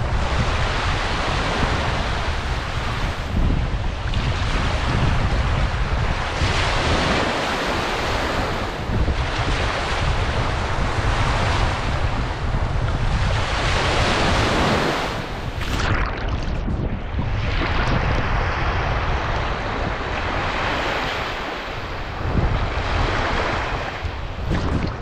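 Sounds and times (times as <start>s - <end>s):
waves breaking on sandy beach: 0.0s - 25.0s
wind rumble on microphone: 0.0s - 25.0s.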